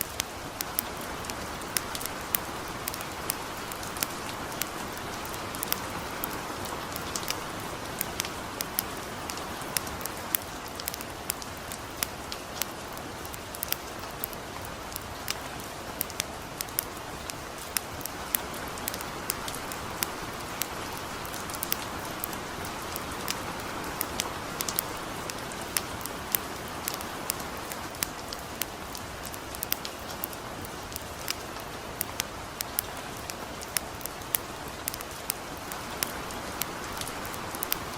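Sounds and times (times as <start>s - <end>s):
campfire crackling and popping: 0.0s - 37.9s
light rain hiss: 0.0s - 37.9s.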